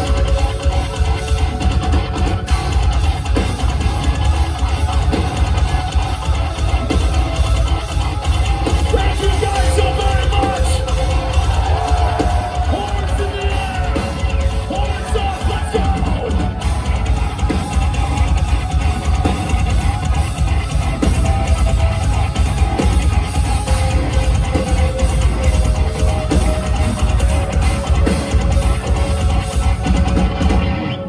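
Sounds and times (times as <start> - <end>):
distorted guitars: 0.0 - 31.0
pounding drums: 0.0 - 31.0.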